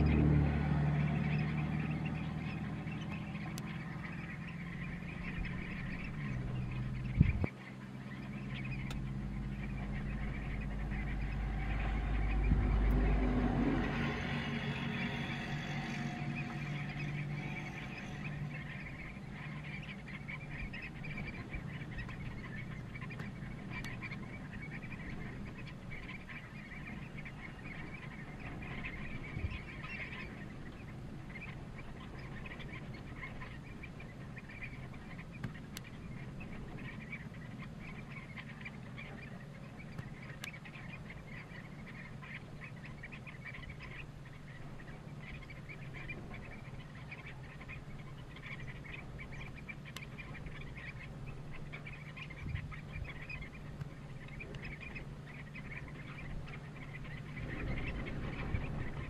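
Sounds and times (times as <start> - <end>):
flock of shorebirds calling: 0.0 - 59.0
low hum: 0.0 - 59.0.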